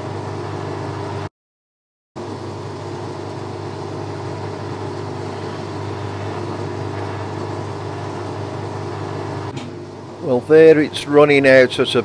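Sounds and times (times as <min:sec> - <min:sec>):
lathe motor humming: 0:02.2 - 0:12.0.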